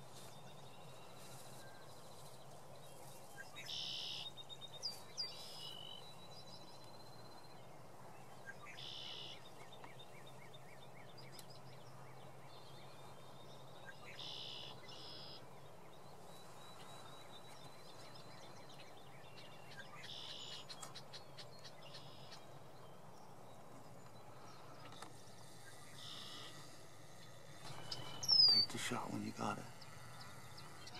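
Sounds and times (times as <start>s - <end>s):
small birds singing: 0.0s - 30.9s.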